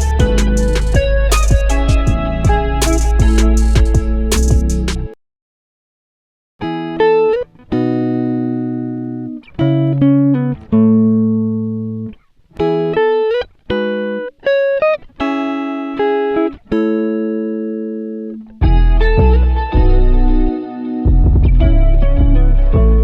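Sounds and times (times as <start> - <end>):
plucked guitar melody: 0.0 - 5.2, 6.6 - 23.0.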